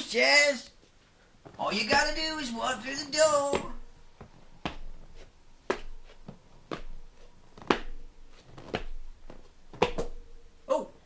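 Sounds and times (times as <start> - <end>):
slow footsteps: 0.8 - 10.2.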